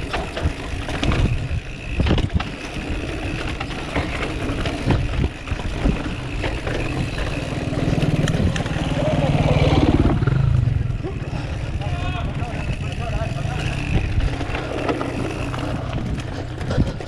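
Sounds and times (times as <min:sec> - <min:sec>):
bike rattling over bumps: 0:00.0 - 0:17.0.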